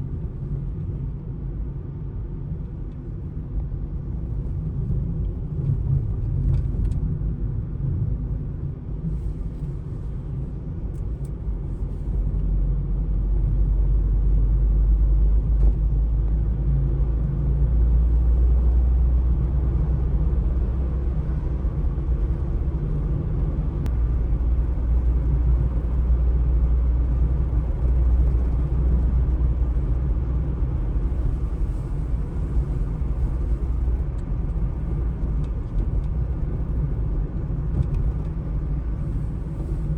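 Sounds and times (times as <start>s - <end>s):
outdoor street ambience rumble: 0.0s - 39.9s.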